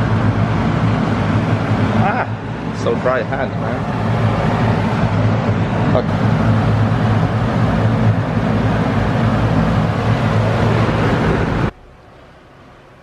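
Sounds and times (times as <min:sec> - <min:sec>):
exhaust fan motor hum: 0:00.0 - 0:13.0
rushing air: 0:00.0 - 0:13.0.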